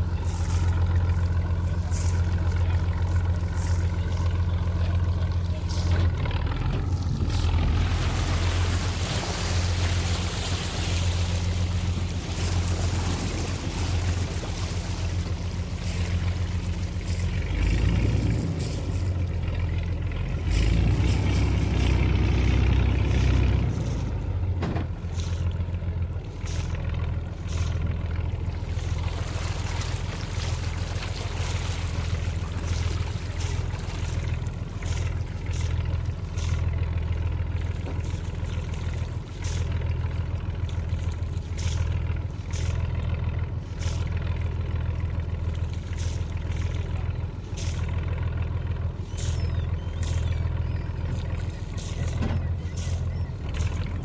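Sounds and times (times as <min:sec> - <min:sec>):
diesel boat engine throbbing: 0:00.0 - 0:54.0.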